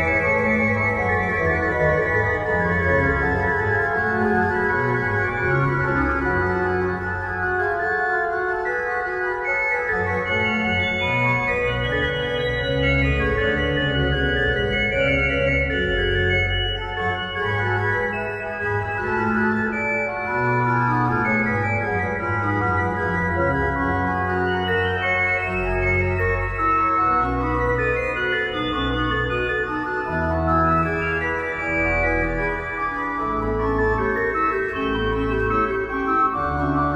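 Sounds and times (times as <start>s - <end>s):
organ playing slow chords: 0.0s - 36.9s.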